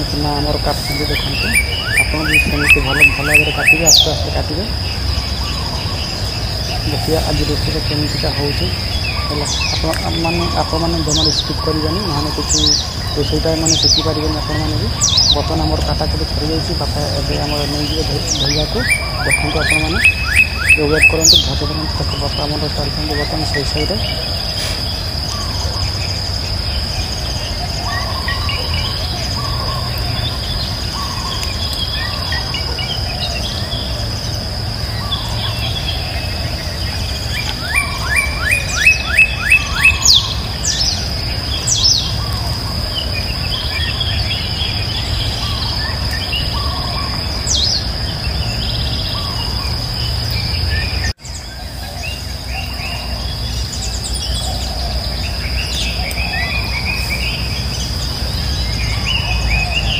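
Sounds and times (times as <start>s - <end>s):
birds chirping: 0.0s - 59.9s
insects droning: 0.0s - 59.9s.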